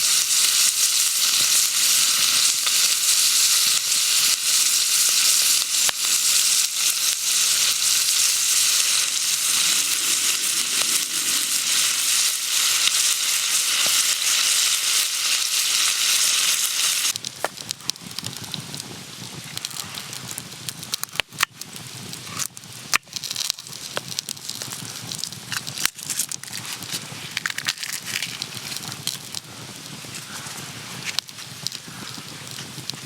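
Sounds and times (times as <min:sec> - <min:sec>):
campfire crackling and popping: 0:00.0 - 0:33.0
food sizzling while frying: 0:00.0 - 0:33.0.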